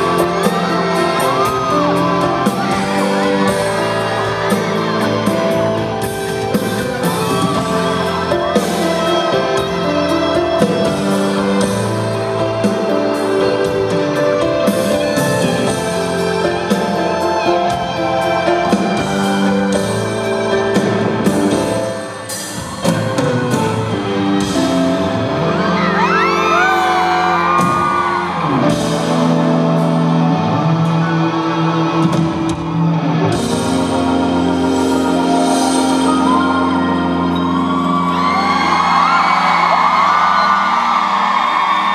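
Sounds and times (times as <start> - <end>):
fans screaming and whooping: 0.0 - 41.9
live concert music: 0.0 - 41.9.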